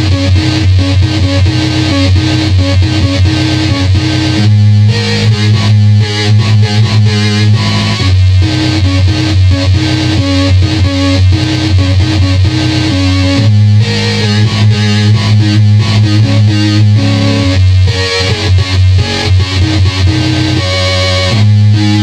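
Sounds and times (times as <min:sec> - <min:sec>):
glitchy electronic keyboard tones: 0:00.0 - 0:22.0.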